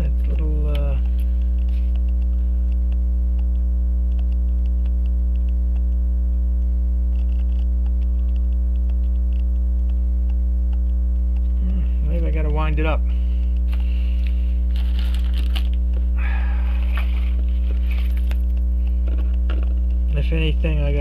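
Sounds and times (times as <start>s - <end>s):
low electrical mains hum: 0.0s - 21.0s.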